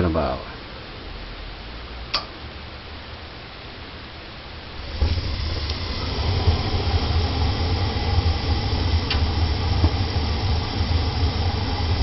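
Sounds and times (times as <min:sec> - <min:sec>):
furnace burners rumbling and hissing: 0:00.0 - 0:12.0.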